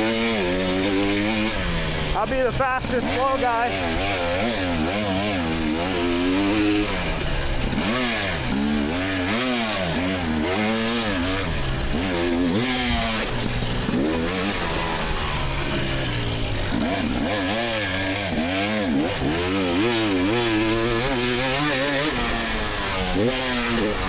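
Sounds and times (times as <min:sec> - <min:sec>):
two-stroke dirt bike revving: 0:00.0 - 0:24.0.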